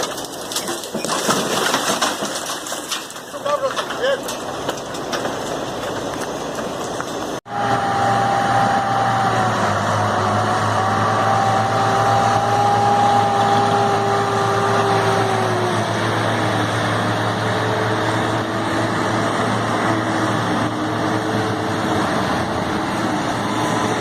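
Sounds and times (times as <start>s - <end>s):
heavy engine running: 3.3s - 24.0s.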